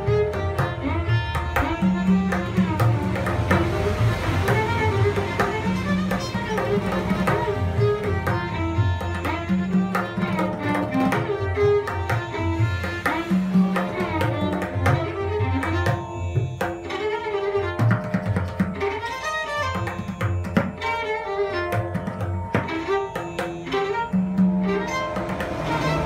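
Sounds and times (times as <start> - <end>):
bowed violin melody: 0.0 - 26.0
tabla strokes: 0.0 - 26.0.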